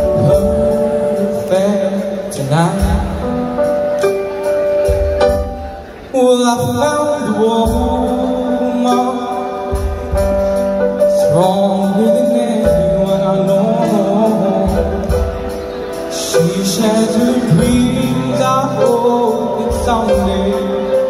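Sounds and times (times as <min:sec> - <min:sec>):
man singing into a microphone: 0:00.0 - 0:04.0, 0:06.0 - 0:21.0
keyboard chords: 0:00.0 - 0:21.0.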